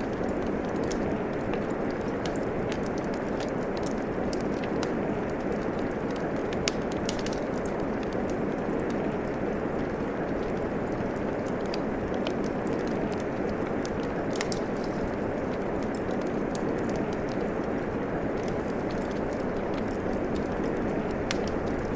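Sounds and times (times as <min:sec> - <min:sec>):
rain hiss: 0:00.0 - 0:21.9
wood fire crackling: 0:00.0 - 0:21.9.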